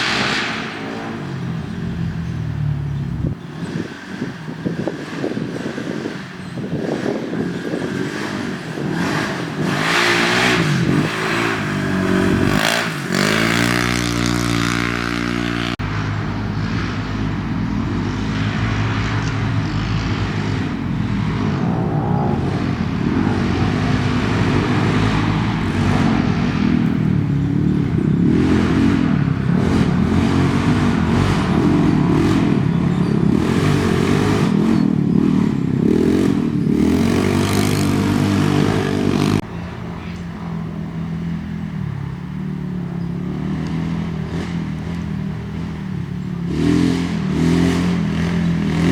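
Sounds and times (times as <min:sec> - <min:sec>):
race vehicle engines revving: 0:00.0 - 0:48.9.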